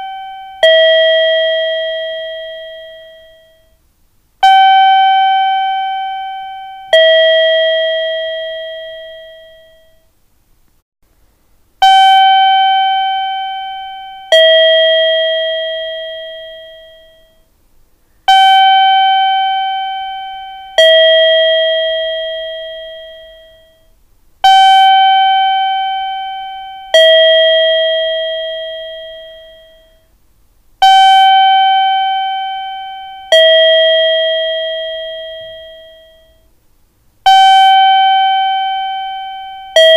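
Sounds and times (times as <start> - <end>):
two-tone station chime: 0.0 - 3.8, 4.4 - 10.1, 11.8 - 17.4, 18.3 - 23.9, 24.5 - 30.1, 30.8 - 36.5, 37.3 - 39.9.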